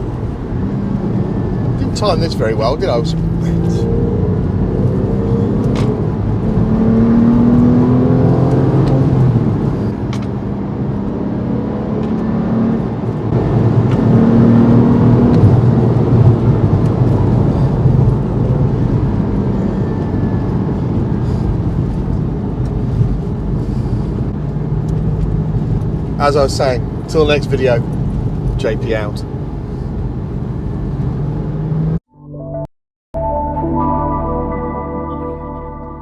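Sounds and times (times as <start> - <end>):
car engine accelerating: 0.0 - 32.0
road noise: 0.0 - 32.0.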